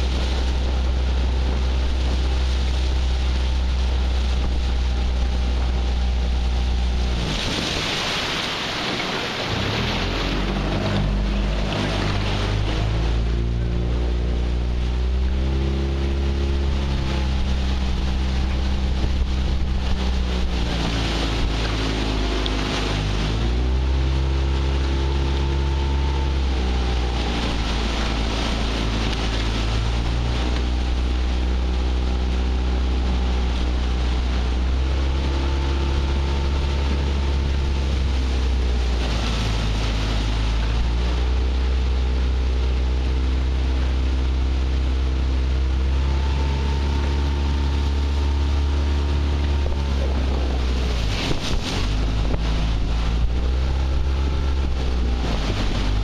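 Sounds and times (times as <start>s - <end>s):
boat motor running: 0.0s - 56.0s
wind and water rushing: 0.0s - 56.0s.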